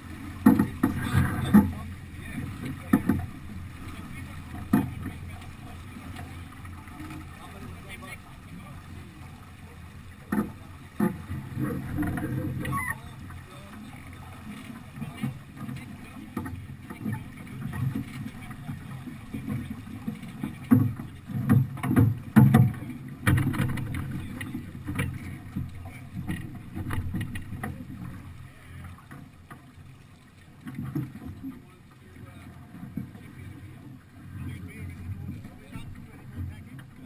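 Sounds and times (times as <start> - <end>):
water along a hull: 0.0 - 37.0.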